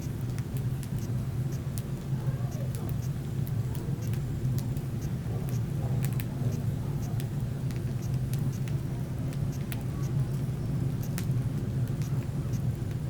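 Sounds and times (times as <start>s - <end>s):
low fire rumble: 0.0s - 13.0s.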